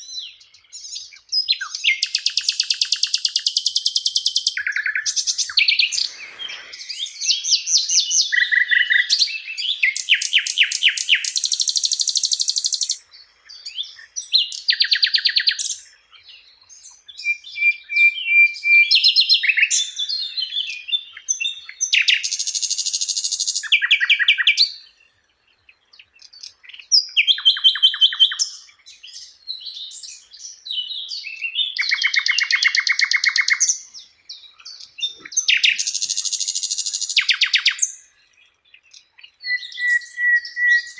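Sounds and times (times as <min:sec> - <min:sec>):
flycatcher singing trills: 0:00.0 - 0:25.0, 0:25.7 - 0:40.9.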